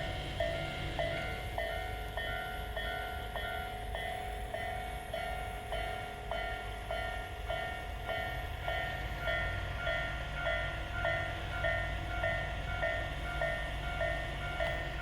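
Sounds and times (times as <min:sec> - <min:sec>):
level crossing alarm ringing: 0:00.0 - 0:15.0.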